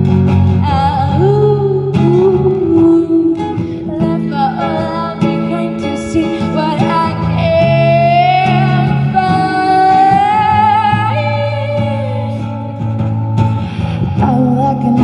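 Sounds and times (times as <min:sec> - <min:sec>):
acoustic guitar chords: 0:00.0 - 0:15.0
person singing: 0:00.6 - 0:12.8, 0:13.4 - 0:15.0.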